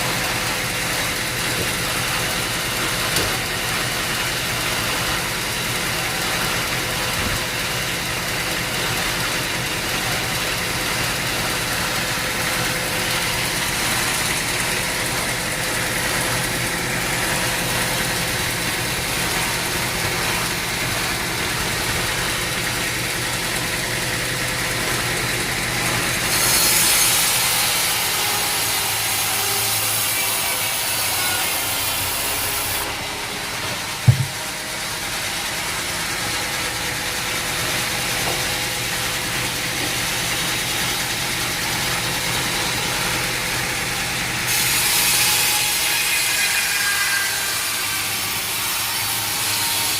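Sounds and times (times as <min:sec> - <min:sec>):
saw cutting through log: 0:00.0 - 0:49.9
sawmill machinery humming: 0:00.0 - 0:49.9.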